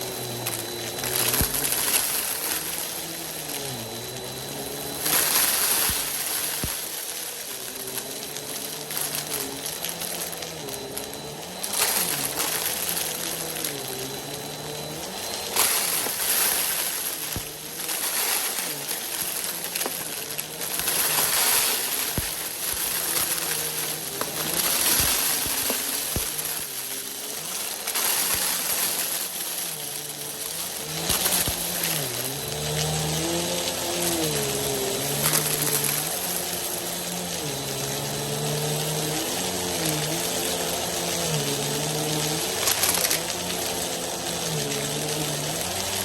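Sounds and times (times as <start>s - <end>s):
dry food clicking and rattling: 0.0s - 46.0s
vacuum cleaner running: 0.0s - 46.0s.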